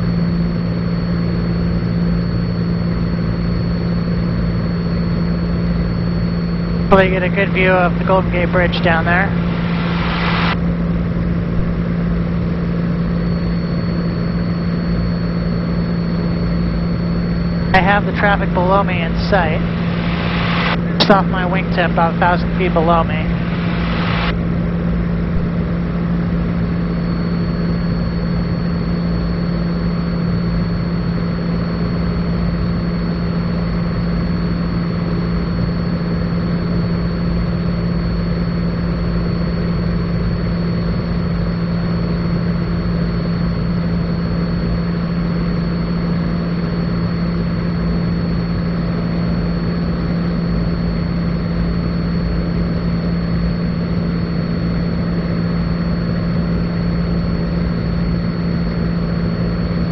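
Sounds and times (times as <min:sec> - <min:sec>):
high steady whine: 0:00.0 - 0:59.9
propeller plane engine droning: 0:00.0 - 0:59.9.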